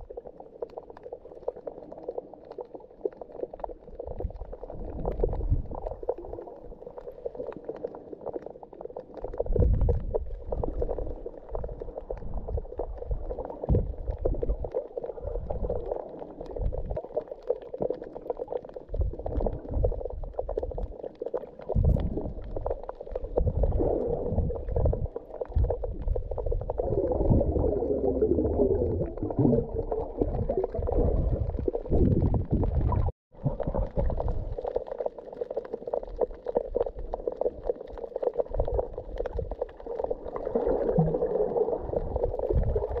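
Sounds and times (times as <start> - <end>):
deep rumbles of moving water: 0.0 - 43.0
underwater bubbling wash: 0.0 - 43.0.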